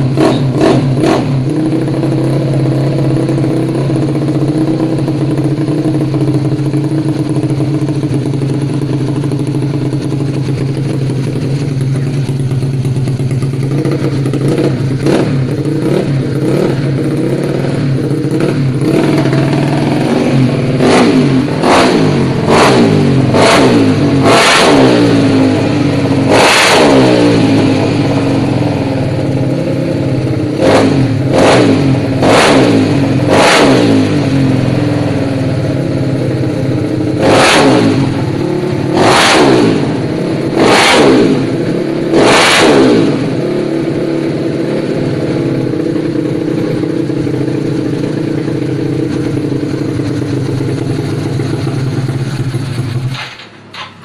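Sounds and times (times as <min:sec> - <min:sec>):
scooter engine revving and idling: 0:00.0 - 0:54.0.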